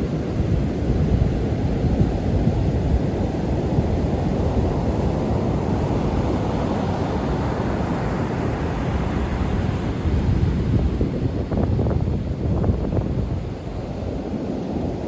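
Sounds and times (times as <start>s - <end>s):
sea surf rushing: 0.0s - 12.5s
wind buffeting microphone: 0.1s - 15.0s.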